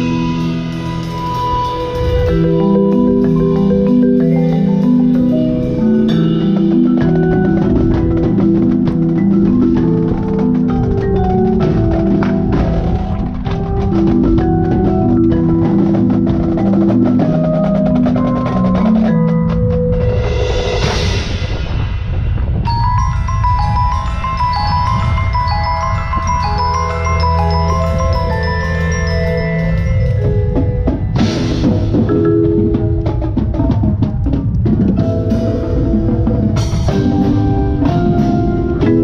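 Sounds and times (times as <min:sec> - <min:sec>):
marimba rolling chords: 0:00.0 - 0:39.0.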